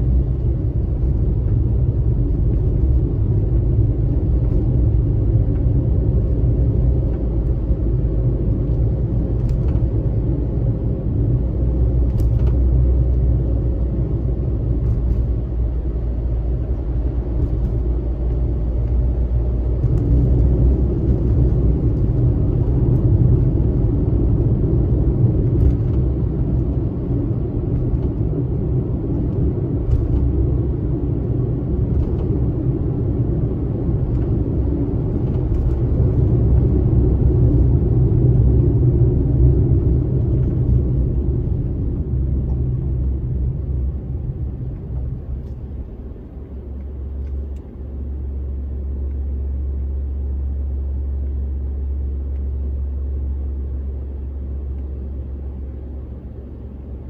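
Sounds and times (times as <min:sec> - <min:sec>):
car road noise rumble: 0:00.0 - 0:57.0
steady low hum: 0:00.0 - 0:57.0.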